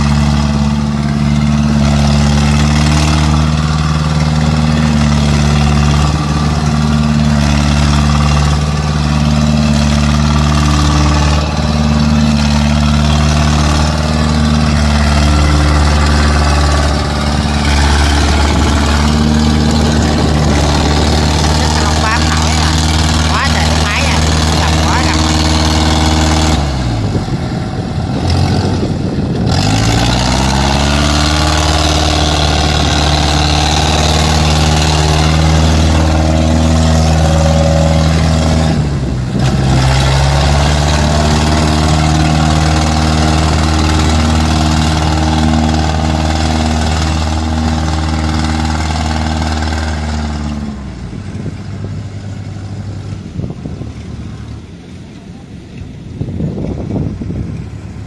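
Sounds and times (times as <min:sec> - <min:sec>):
tracked carrier engine labouring: 0:00.0 - 0:58.0.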